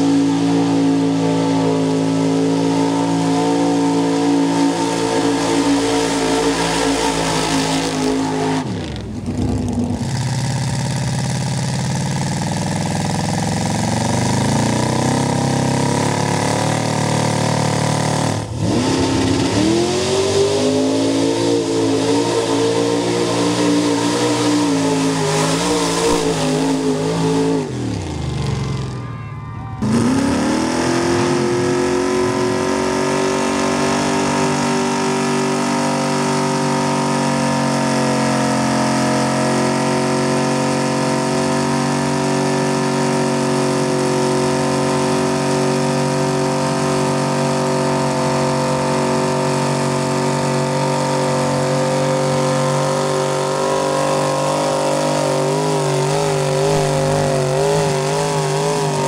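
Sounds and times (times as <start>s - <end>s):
engine revving high: 0.0s - 10.4s, 13.0s - 29.0s, 29.8s - 59.0s
tires spinning through mud: 0.0s - 29.0s, 29.8s - 59.0s.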